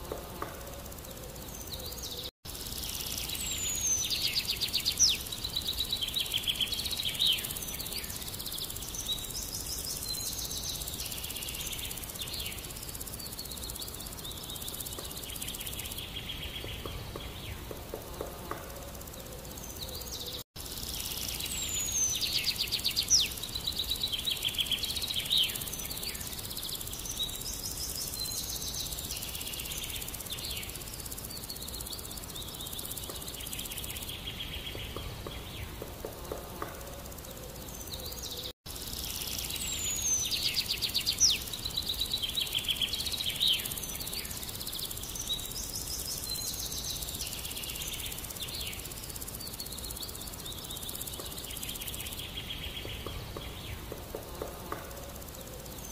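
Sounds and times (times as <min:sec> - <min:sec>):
small birds chirping: 0:00.0 - 0:55.9
steady background hiss: 0:00.0 - 0:55.9.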